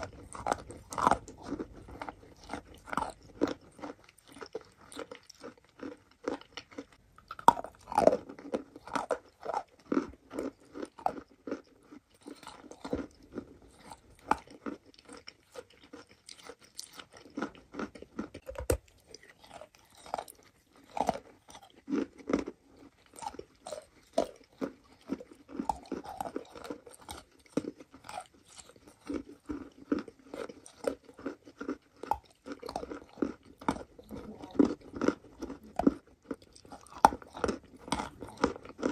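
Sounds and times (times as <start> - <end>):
soft chewing: 0.0 - 38.9.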